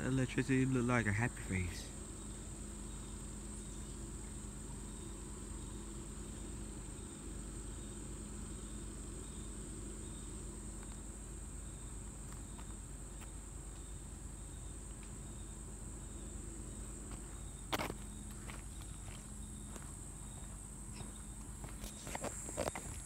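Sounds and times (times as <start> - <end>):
insects droning: 0.0 - 23.0
low steady hum: 0.0 - 23.0.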